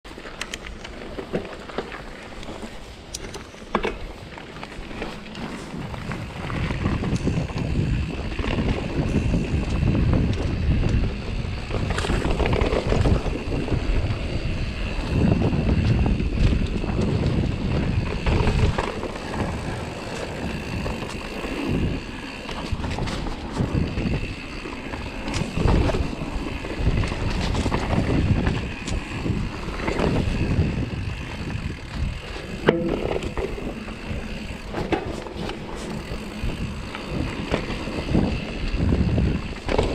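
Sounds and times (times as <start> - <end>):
tyres rumbling on dirt trail: 0.0 - 39.9
bike knocks and rattles: 3.2 - 39.9
wind buffeting microphone: 4.9 - 39.9.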